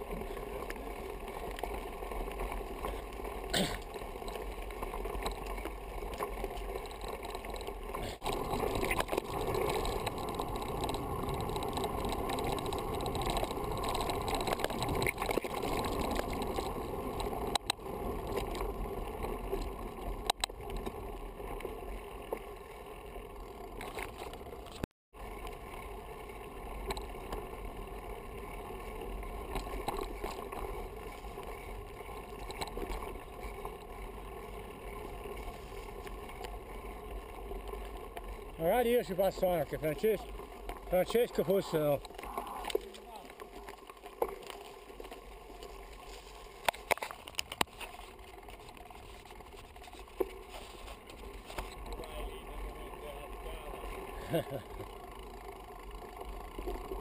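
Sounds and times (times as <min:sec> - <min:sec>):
tyres rolling over dirt trail: 0:00.0 - 0:57.0.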